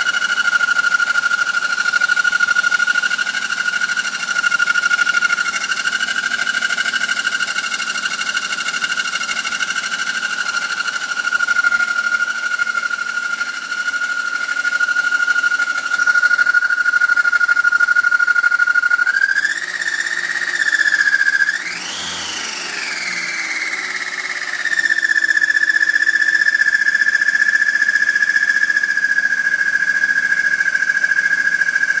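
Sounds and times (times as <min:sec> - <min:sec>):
high-pitched grinding whine: 0:00.0 - 0:32.0.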